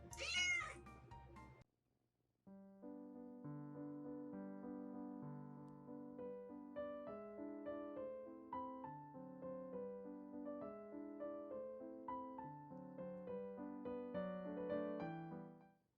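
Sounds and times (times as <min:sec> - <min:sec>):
gentle piano music: 0:02.5 - 0:15.8.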